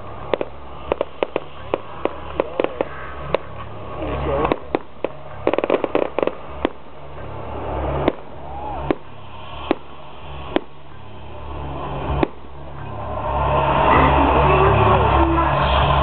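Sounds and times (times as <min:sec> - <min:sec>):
firework shells bursting: 0:00.0 - 0:13.1
low steady rumble: 0:00.0 - 0:16.0.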